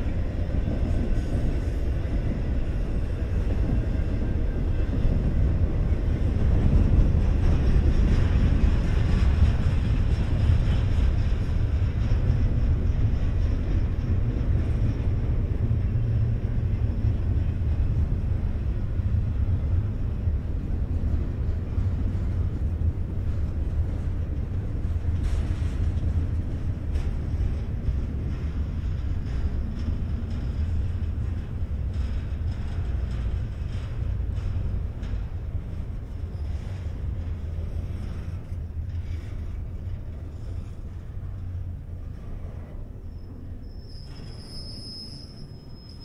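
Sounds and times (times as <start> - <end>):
freight train wheels rumbling: 0.0 - 46.0.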